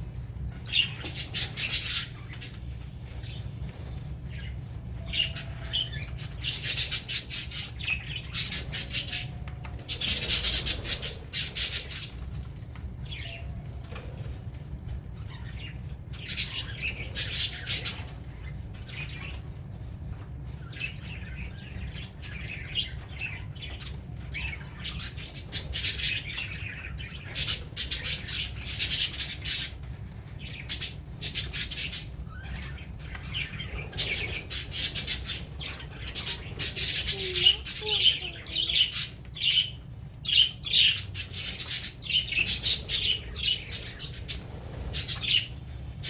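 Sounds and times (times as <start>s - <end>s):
budgerigars chirping and squawking: 0.5s - 14.4s, 15.2s - 46.0s.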